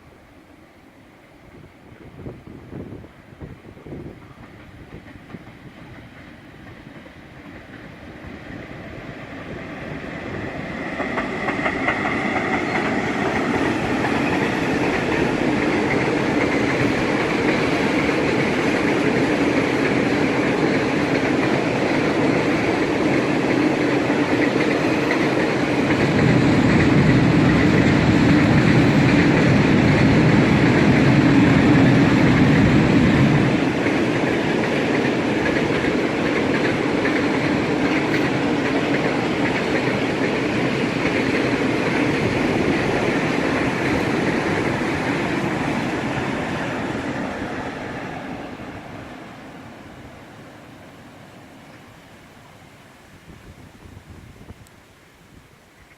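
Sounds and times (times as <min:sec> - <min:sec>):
freight train rolling past: 0:00.0 - 0:54.6.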